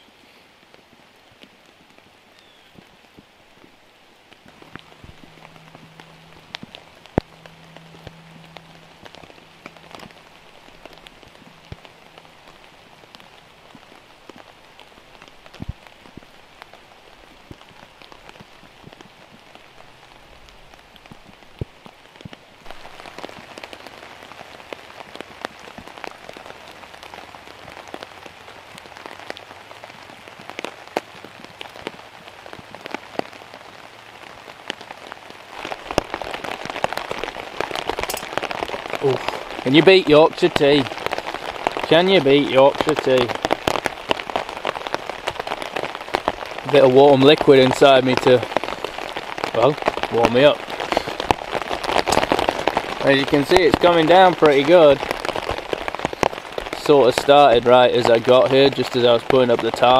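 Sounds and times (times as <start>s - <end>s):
raindrops ticking close by: 0.0s - 59.9s
steady rainfall: 0.0s - 59.9s.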